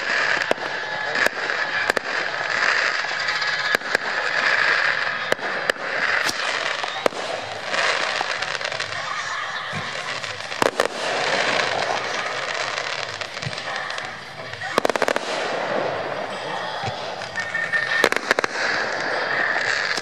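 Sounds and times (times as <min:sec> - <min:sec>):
firework bangs: 0:00.0 - 0:20.0
firework hiss and crackle: 0:00.0 - 0:20.0.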